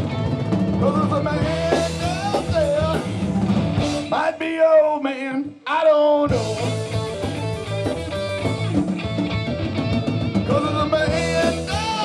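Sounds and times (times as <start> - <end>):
live rock band playing: 0.0 - 4.6, 6.2 - 12.0.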